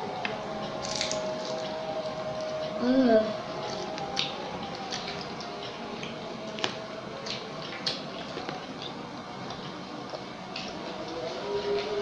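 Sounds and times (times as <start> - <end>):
faint background hum: 0.0 - 12.0
child eating with smacks: 0.1 - 2.8, 3.4 - 12.0.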